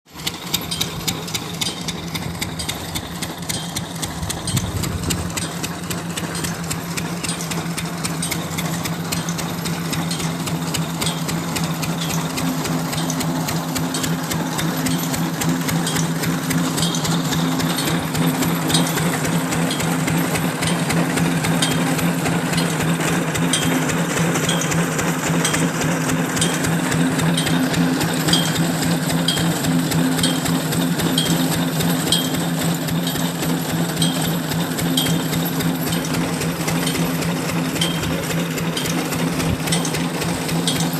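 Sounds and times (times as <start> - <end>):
soil boring rig running: 0.1 - 40.9
sharp mechanical tick: 0.2 - 40.9.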